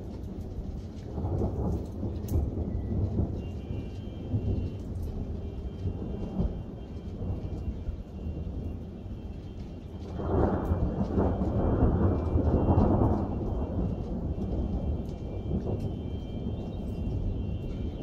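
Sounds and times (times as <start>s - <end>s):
rain falling: 0.0s - 18.0s
rolling thunder: 0.0s - 18.0s.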